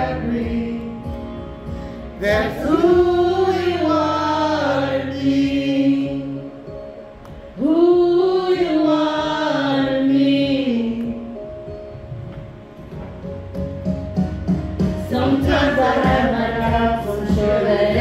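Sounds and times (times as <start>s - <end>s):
soft musical accompaniment: 0.0s - 18.0s.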